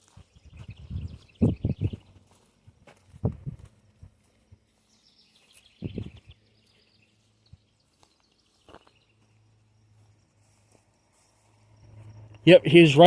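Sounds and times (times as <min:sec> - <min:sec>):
faint high chirping: 0:00.0 - 0:02.4, 0:04.0 - 0:12.6
heavy footsteps on ground: 0:00.0 - 0:06.3, 0:07.2 - 0:12.2.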